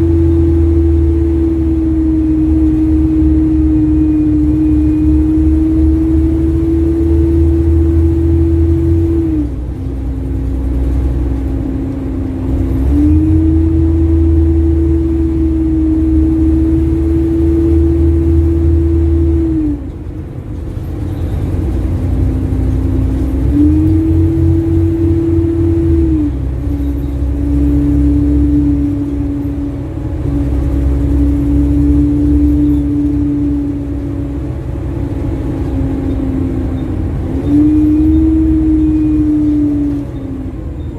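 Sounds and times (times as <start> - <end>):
bus diesel engine rumble: 0.0 - 40.9
exhaust ticking: 0.0 - 40.9
steady whine: 0.0 - 40.9.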